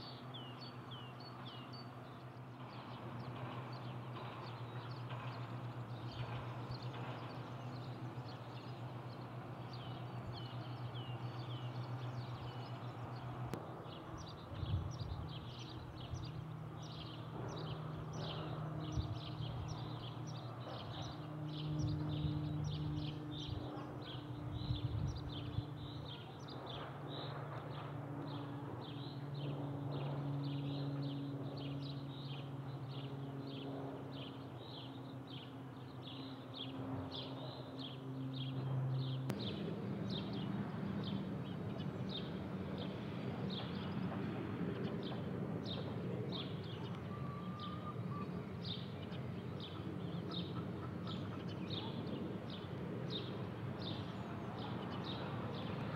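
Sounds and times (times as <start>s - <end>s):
distant propeller plane drone: 0.0s - 55.9s
jet airliner rumble overhead: 0.0s - 55.9s.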